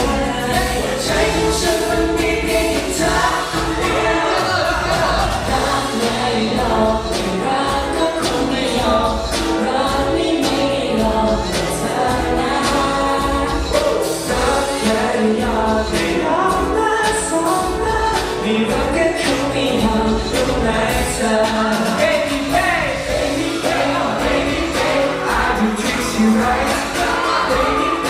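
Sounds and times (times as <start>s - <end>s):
pop song over sound system: 0.0s - 28.0s
voices singing together: 0.0s - 28.0s.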